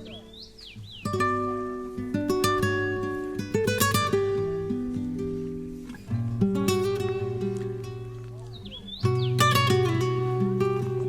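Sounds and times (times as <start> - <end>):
plucked string instrument: 0.0 - 11.0.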